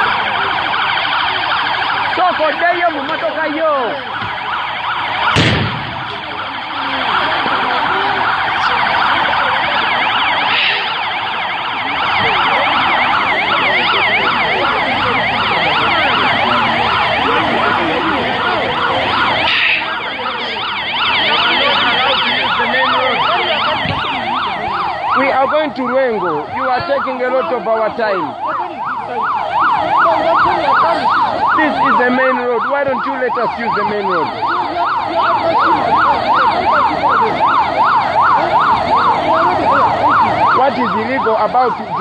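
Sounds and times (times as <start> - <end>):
vehicle sirens yelping: 0.0 - 42.0.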